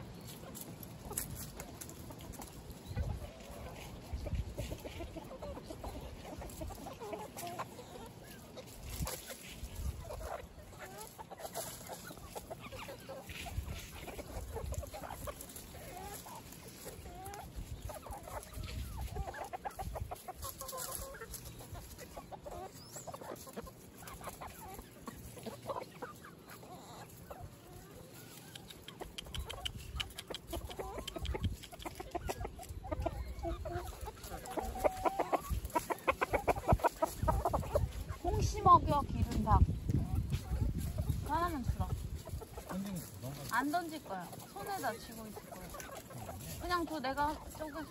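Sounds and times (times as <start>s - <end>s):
hens clucking: 0.0s - 47.9s.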